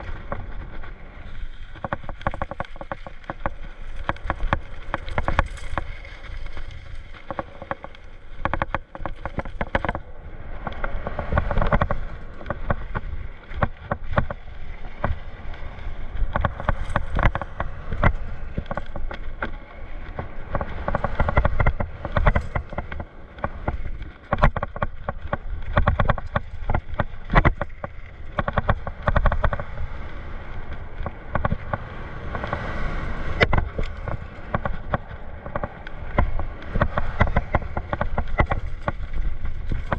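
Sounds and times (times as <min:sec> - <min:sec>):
bike knocks and rattles: 0:00.0 - 0:39.9
bike tyres rumbling on dirt: 0:00.0 - 0:39.9.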